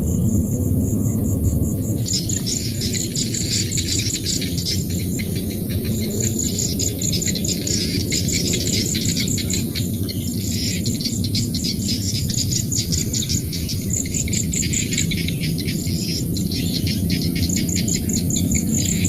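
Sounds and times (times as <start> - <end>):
chorus of insect chirps: 0.0 - 19.0
insects chirping: 0.0 - 19.0
steady low rumble: 0.0 - 19.0.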